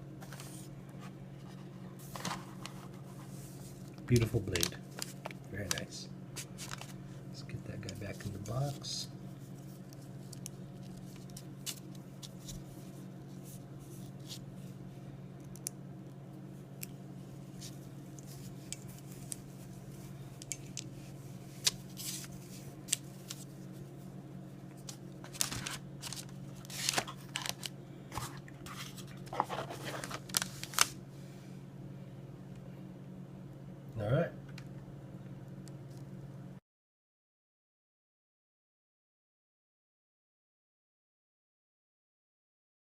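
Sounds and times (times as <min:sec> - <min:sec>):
steady low hum: 0:00.0 - 0:36.6.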